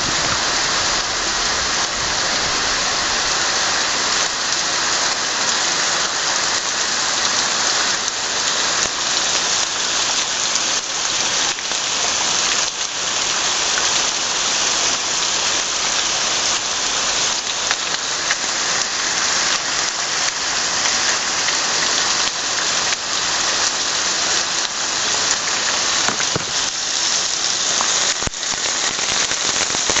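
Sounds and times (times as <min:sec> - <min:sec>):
heavy wind-driven rain: 0:00.0 - 0:30.0.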